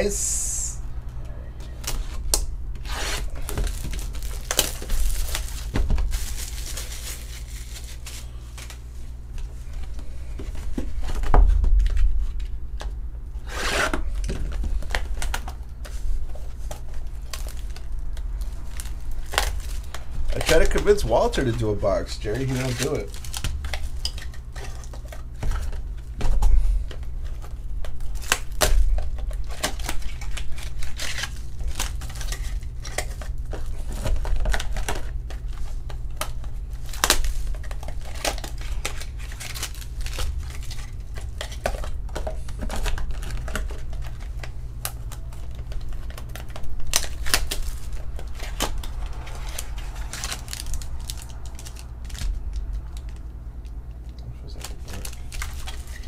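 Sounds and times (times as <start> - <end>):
steady low hum: 0.0 - 56.0
foil and plastic crinkling: 1.7 - 56.0.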